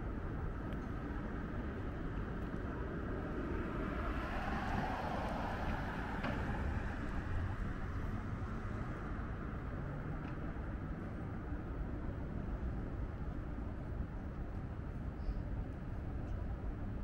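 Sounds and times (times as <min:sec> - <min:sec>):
hum of car traffic: 0:00.0 - 0:17.0.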